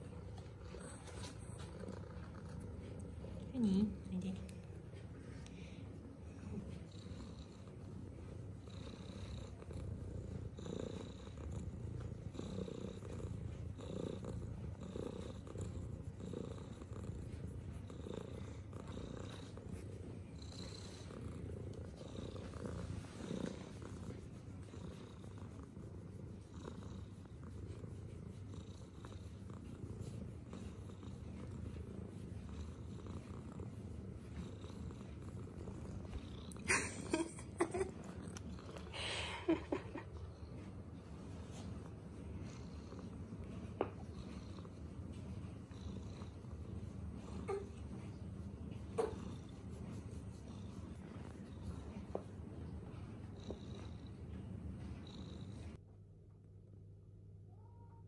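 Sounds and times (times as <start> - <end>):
cat purring: 0.0 - 55.8.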